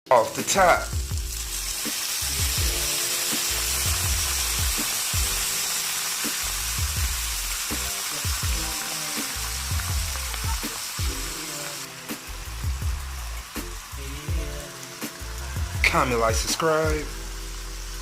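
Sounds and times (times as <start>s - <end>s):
food sizzling in a pan: 0.1s - 18.0s
background music with bass beat: 0.4s - 5.6s, 6.2s - 18.0s.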